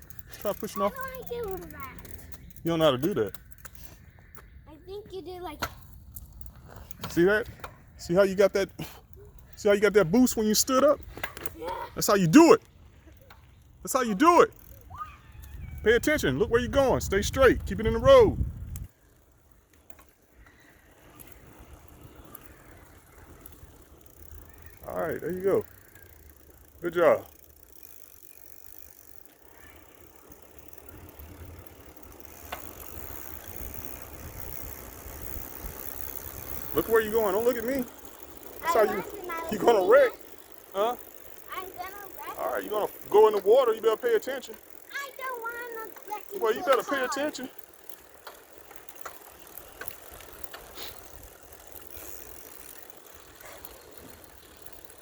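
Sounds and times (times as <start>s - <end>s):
bicycle tyres rumbling: 0.0s - 55.0s
wind: 0.0s - 55.0s.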